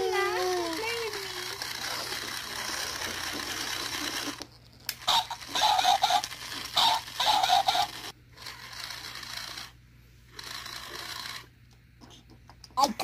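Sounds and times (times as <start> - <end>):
toy motor and gears whirring: 0.0 - 11.6.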